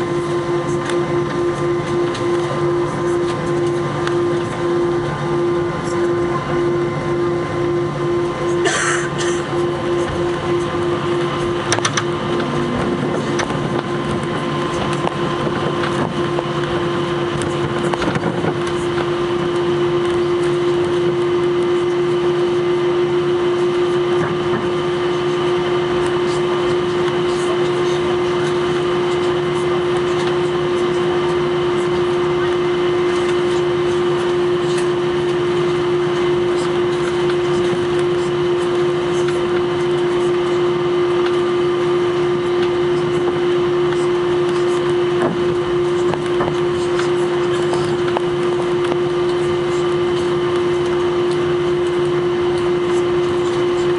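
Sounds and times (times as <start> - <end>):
airplane cabin hum: 0.0 - 53.9
steady tone: 0.0 - 53.9.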